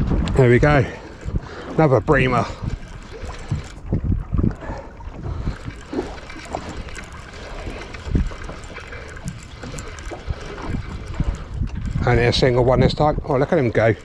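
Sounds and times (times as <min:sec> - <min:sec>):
water lapping: 0:00.0 - 0:14.0
wind noise: 0:00.0 - 0:14.0.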